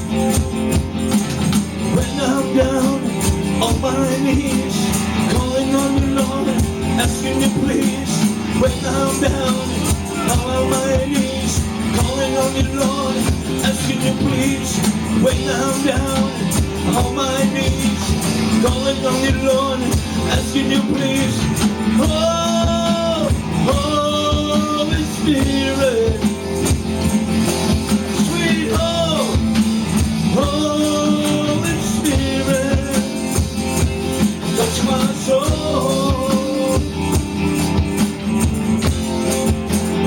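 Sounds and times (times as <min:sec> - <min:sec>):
song with singing voice: 0:00.0 - 0:40.0.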